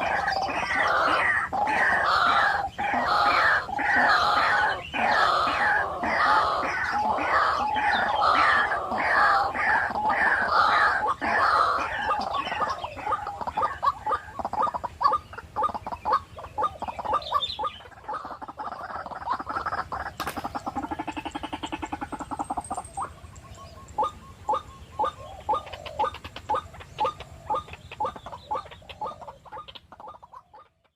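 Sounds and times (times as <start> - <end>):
waterhens calling: 0.0 - 30.9.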